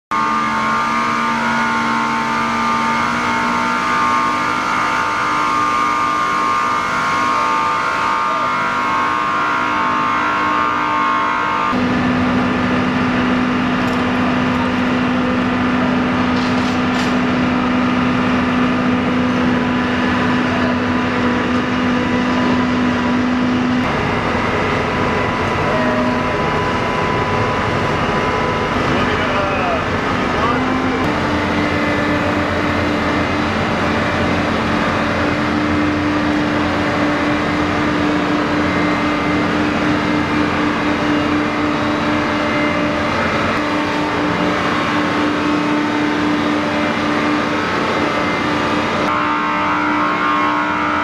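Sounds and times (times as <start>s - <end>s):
machinery drone with hum tones: 0.1s - 51.0s.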